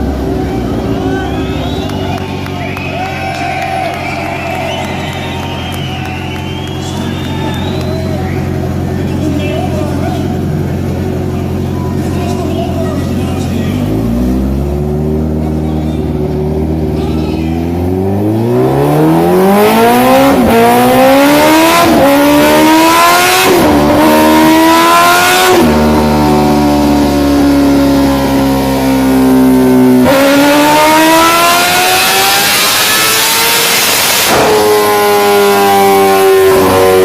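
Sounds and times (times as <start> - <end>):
motorcycle exhaust accelerating: 0.0 - 37.0.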